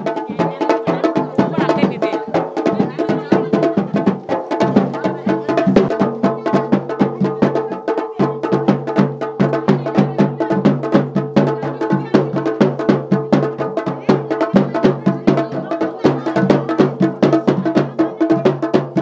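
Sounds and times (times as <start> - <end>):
fast drum strokes: 0.0 - 19.0.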